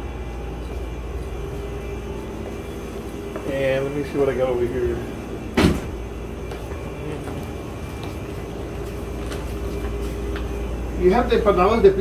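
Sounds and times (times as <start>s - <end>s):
low shop hum: 0.0s - 12.0s.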